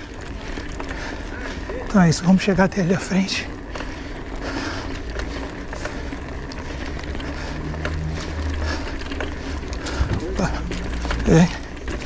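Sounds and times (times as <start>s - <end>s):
bike clicks and rattles: 0.0s - 12.0s
bike tyres rumbling on cobblestones: 0.0s - 12.0s.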